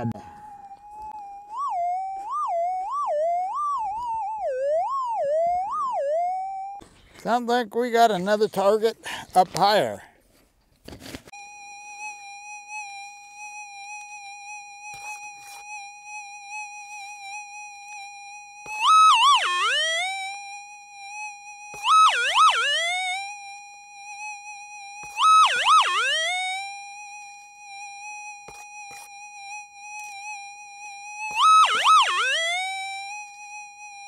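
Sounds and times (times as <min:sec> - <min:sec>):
metal detector warbling signal: 0:00.0 - 0:06.8, 0:11.4 - 0:34.0.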